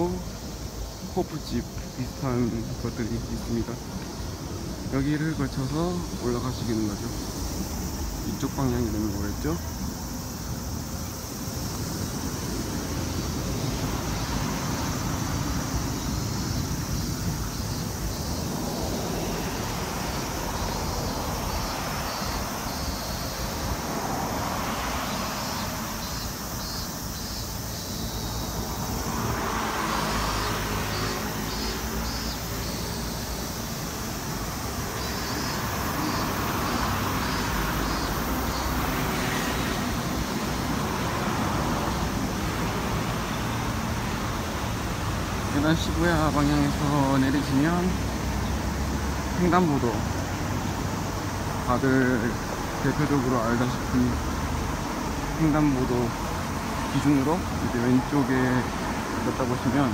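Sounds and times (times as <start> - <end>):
passing cars: 0.0 - 59.9.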